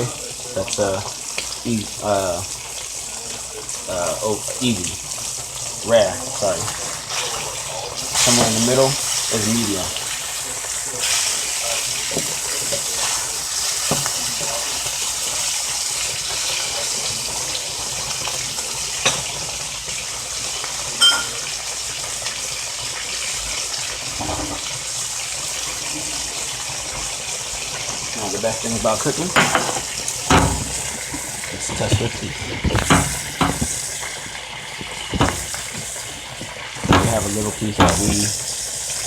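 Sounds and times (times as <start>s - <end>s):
steaks sizzling in a pan: 0.0s - 39.0s.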